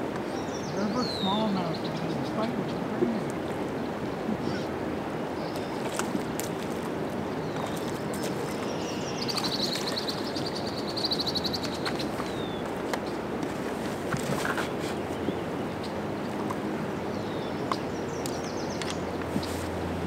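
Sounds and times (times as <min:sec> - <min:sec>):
river water rushing over rocks: 0:01.0 - 0:20.0.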